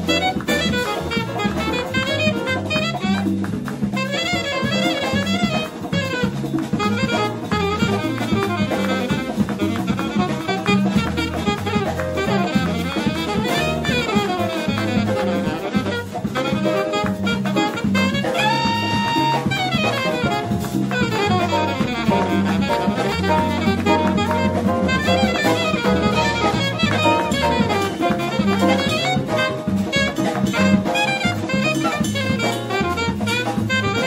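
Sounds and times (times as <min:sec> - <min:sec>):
drum kit: 0:00.0 - 0:34.0
electric bass: 0:00.0 - 0:34.0
saxophone solo: 0:00.0 - 0:34.0.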